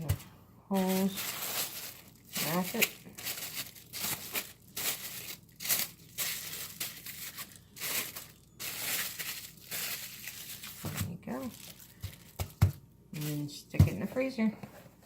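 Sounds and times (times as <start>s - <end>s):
plastic wrap crinkling: 0.0s - 13.5s.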